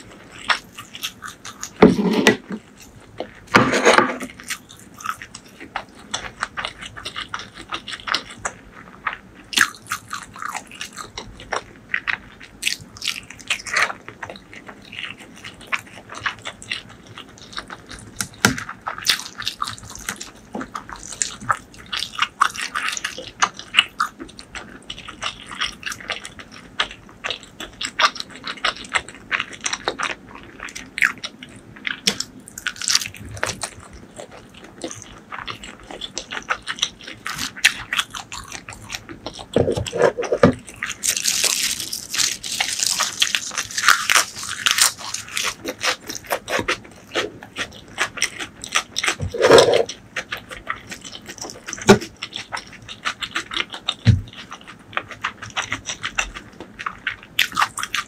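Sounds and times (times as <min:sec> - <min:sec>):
person chewing: 0:00.0 - 0:58.0.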